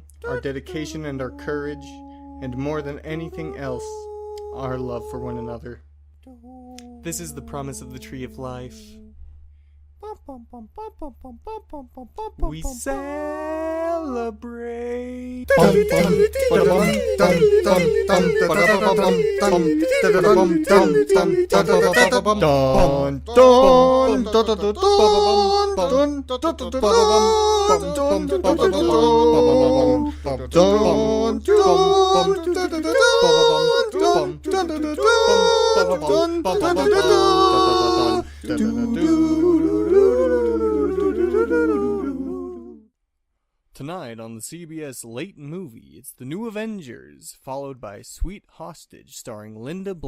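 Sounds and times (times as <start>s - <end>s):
person singing wordlessly: 0.0s - 9.1s, 10.0s - 42.9s
man humming a slow melody: 0.0s - 9.3s, 10.0s - 42.9s.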